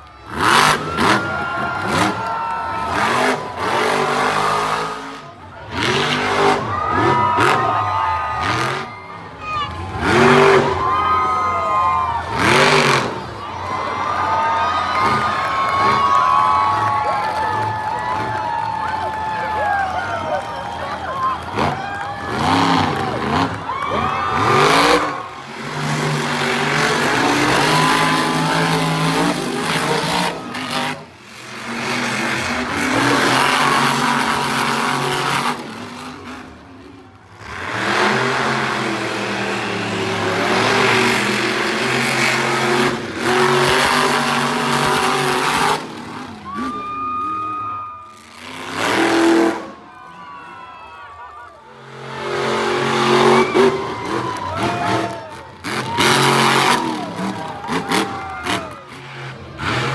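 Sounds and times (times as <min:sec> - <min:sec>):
truck engines revving hard: 0:00.0 - 0:59.9.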